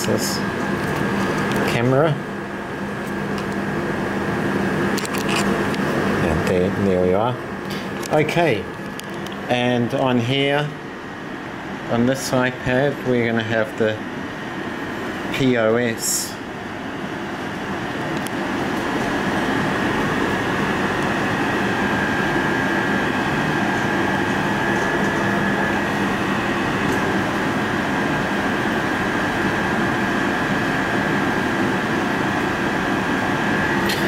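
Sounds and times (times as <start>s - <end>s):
mechanical room hum: 0.0s - 34.0s
thin high whine: 0.0s - 34.0s.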